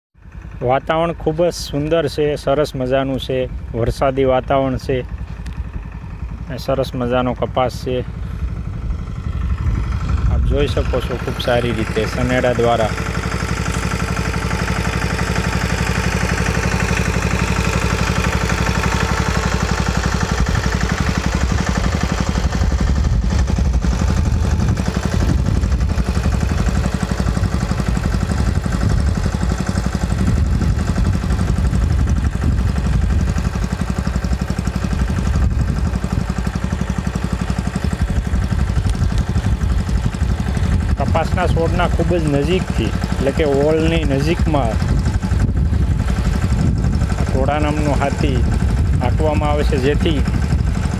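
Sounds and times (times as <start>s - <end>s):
tractor engine chugging: 0.2s - 50.9s.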